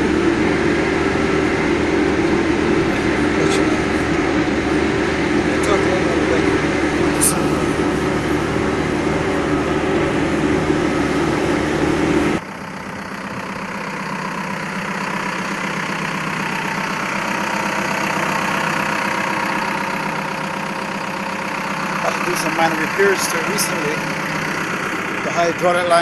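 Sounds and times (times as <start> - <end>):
diesel engine idling: 0.0 - 26.0
diesel engine running: 0.0 - 26.0.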